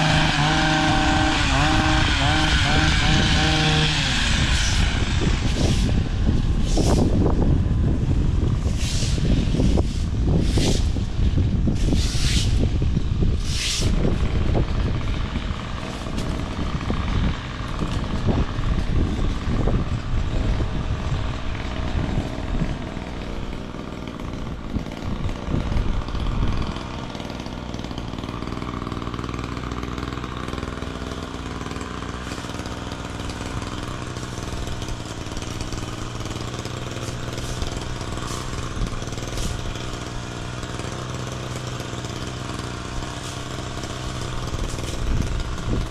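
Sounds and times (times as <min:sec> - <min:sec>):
motor engine running: 0:00.0 - 0:45.9.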